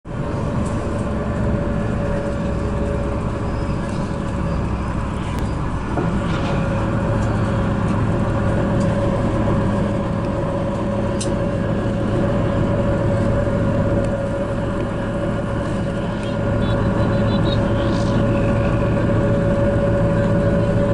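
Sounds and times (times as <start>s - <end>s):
bus engine drone: 0.0s - 20.9s
road noise: 0.0s - 20.9s
mid-pitched hum: 0.1s - 20.9s.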